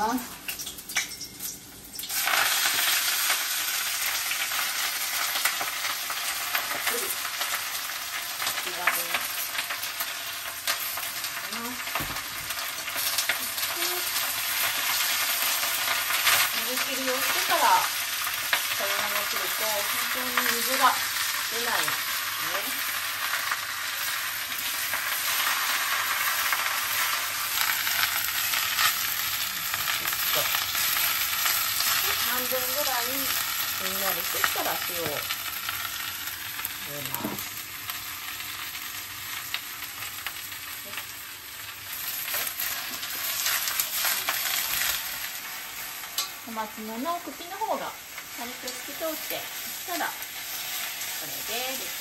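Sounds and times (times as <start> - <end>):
greens sizzling in frying pan: 0.0 - 52.0.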